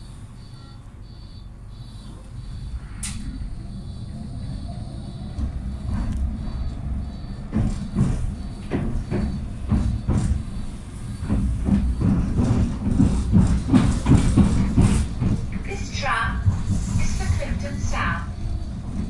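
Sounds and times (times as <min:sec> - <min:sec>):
tram low rumble: 0:00.0 - 0:19.0
wheels knocking on track: 0:02.5 - 0:19.0.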